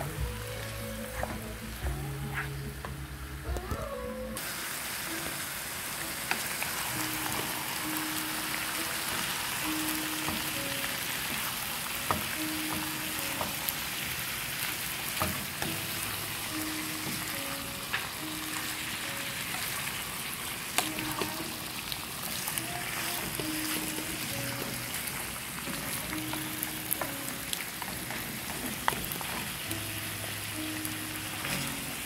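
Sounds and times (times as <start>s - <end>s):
soft background melody: 0.0s - 32.0s
meat sizzling in a frying pan: 4.4s - 32.0s.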